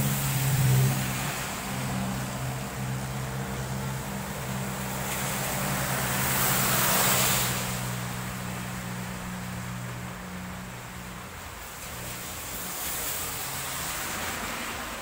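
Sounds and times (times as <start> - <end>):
low engine hum: 0.0 - 12.6
car tyres hissing on wet road: 0.0 - 15.0
rain hissing: 0.0 - 15.0.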